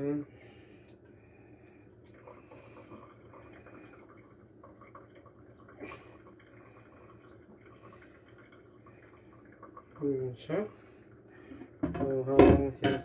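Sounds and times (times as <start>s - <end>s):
water trickling into colander: 0.8s - 12.8s.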